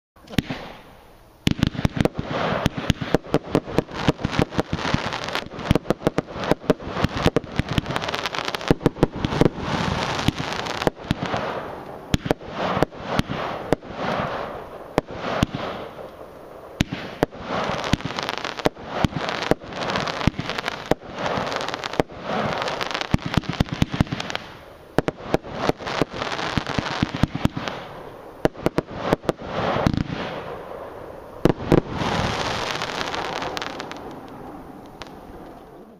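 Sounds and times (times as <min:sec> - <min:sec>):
firework launch thumps and bursts: 0:00.2 - 0:16.2, 0:16.8 - 0:30.6
firework crackle: 0:00.2 - 0:35.9.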